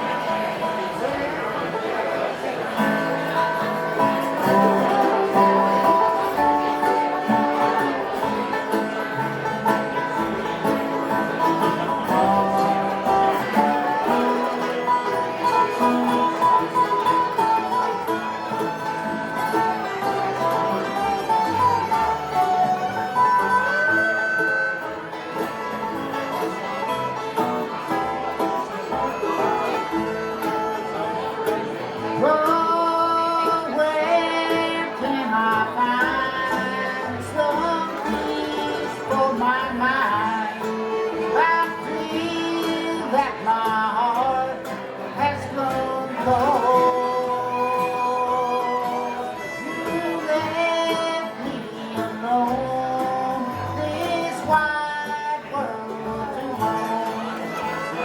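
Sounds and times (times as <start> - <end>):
banjo: 0.0 - 58.0
bluegrass band playing: 0.0 - 58.0
picked guitar: 0.0 - 58.0.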